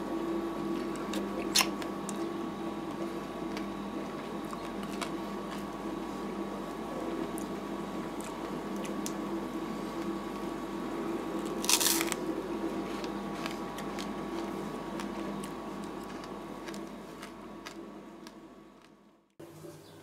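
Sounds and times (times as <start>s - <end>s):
cooling unit hum: 0.0s - 20.0s.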